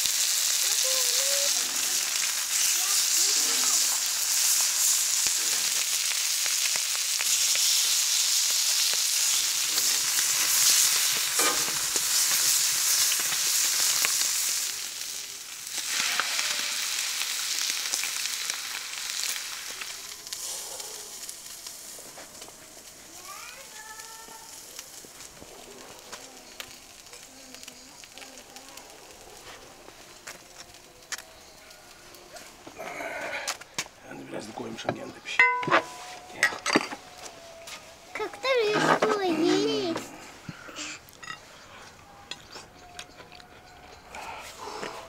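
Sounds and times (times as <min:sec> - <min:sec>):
meat sizzling on a griddle: 0:00.0 - 0:35.6, 0:36.2 - 0:40.0.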